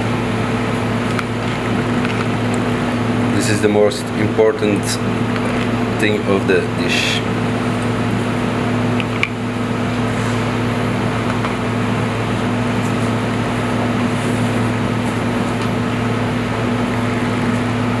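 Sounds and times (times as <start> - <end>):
kitchen machinery humming: 0.0 - 18.0.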